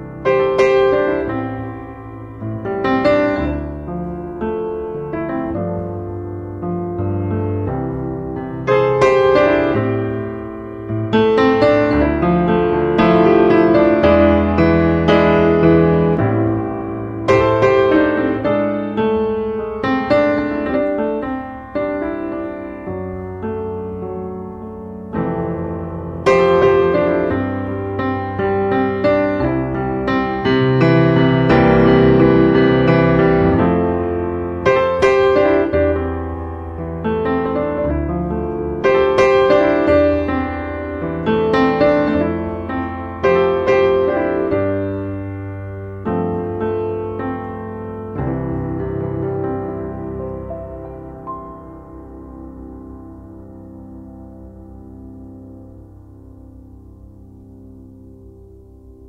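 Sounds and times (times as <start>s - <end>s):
slow piano chords: 0.0s - 59.0s.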